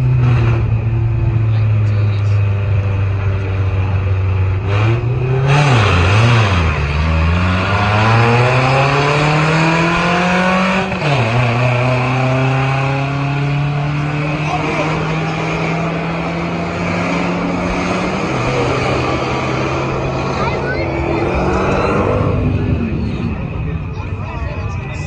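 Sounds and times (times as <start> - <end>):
vehicle engines accelerating hard: 0.0 - 25.0.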